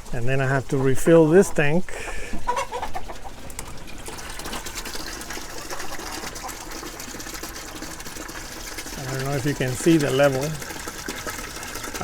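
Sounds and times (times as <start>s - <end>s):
water running into a tank: 2.2s - 12.0s.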